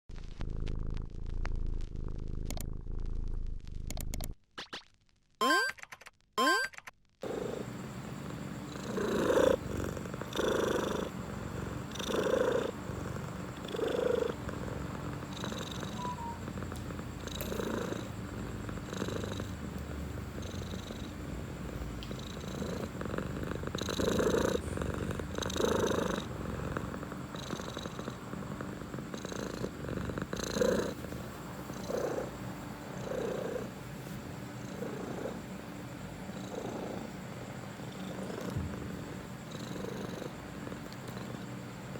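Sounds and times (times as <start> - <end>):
cat purring: 0.1 - 4.0, 7.2 - 41.9.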